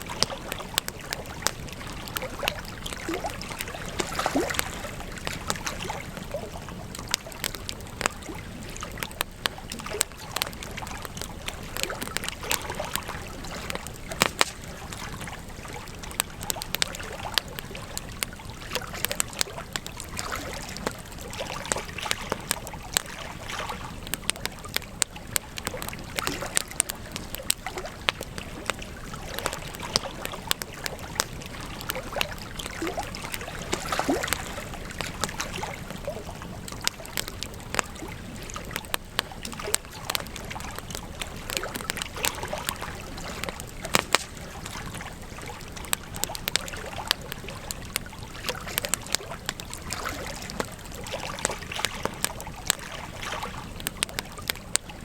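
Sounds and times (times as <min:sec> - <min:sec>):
campfire crackling: 0:00.0 - 0:55.0
fire pops and snaps: 0:00.0 - 0:55.0
rush of burning: 0:00.0 - 0:55.0.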